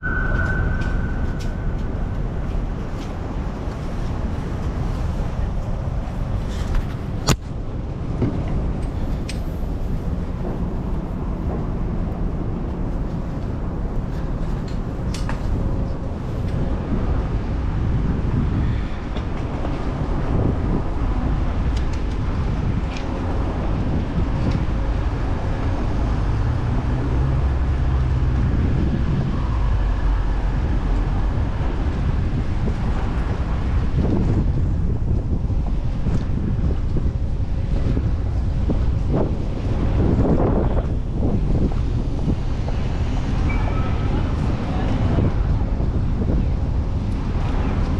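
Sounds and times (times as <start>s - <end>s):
wind and road noise: 0.0s - 47.9s.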